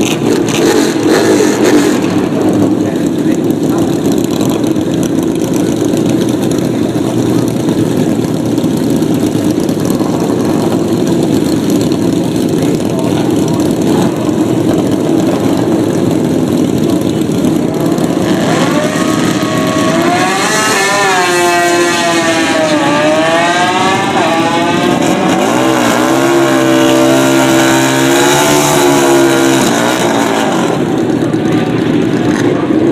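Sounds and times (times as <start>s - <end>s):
motorcycle engines revving: 0.0s - 32.9s.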